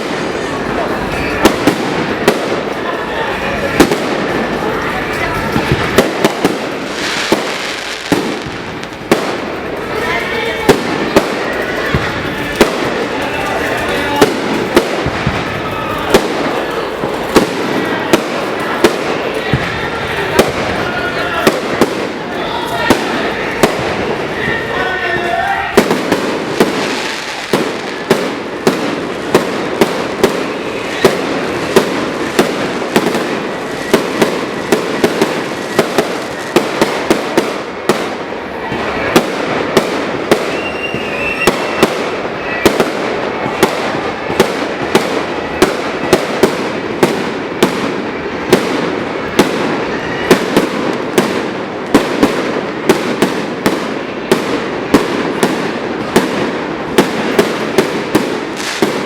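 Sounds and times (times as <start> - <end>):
sharp firework bangs: 0.0 - 24.9, 25.6 - 59.0
fireworks crackle: 0.0 - 59.0.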